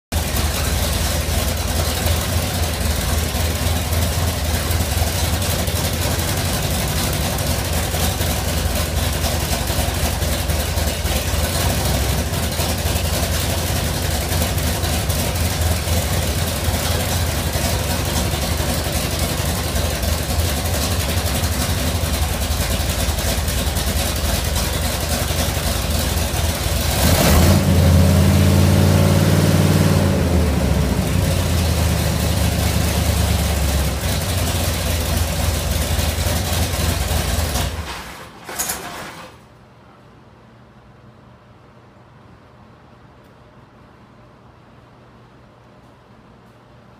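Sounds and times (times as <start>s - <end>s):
engine idling and revving: 0.1s - 37.9s.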